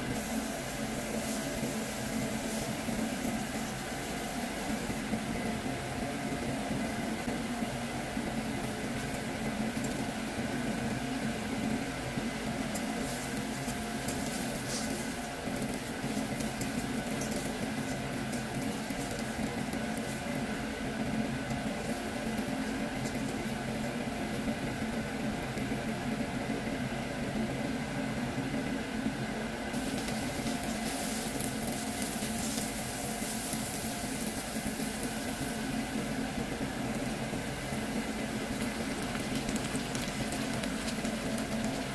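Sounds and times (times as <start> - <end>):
rice sizzling in oil: 0.0 - 24.9, 29.7 - 41.9
steady background hum: 0.0 - 41.9.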